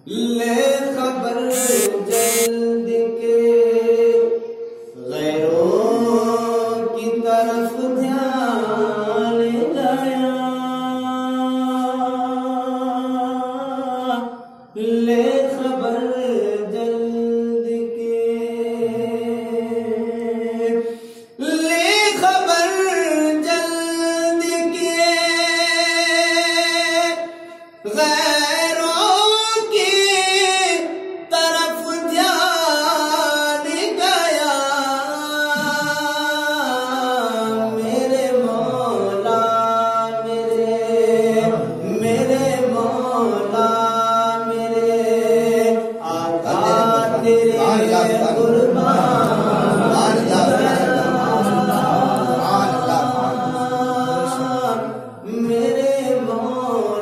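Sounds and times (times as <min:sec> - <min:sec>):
man singing unaccompanied: 0:00.0 - 0:20.8, 0:21.4 - 0:57.0.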